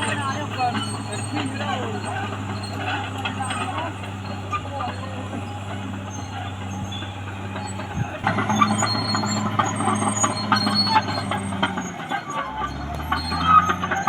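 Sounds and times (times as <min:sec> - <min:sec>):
bulldozer diesel engine running: 0:00.0 - 0:14.0
loud clanking and knocking: 0:00.0 - 0:14.0.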